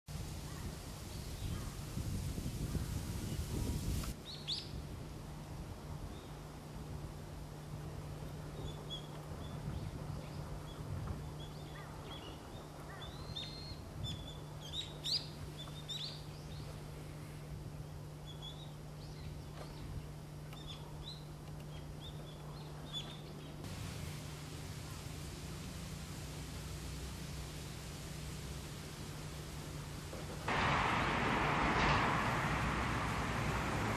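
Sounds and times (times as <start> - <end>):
background hiss: 0.1 - 33.9.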